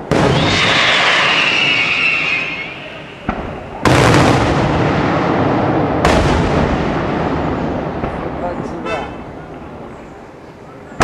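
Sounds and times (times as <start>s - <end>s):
firework bangs: 0.0s - 9.9s
firework crackle: 0.0s - 9.9s
rumble of firework reports: 0.0s - 10.2s.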